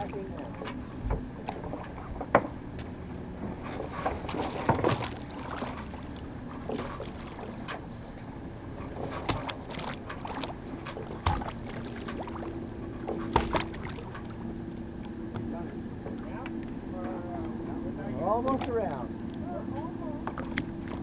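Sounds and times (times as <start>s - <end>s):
water rushing along a hull: 0.0s - 21.0s.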